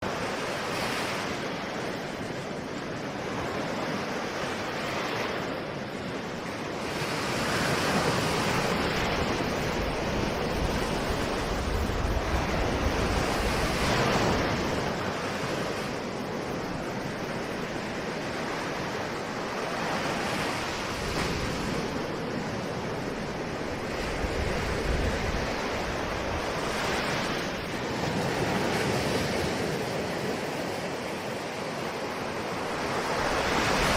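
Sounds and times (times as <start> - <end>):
ocean waves breaking on shore: 0.0 - 33.9.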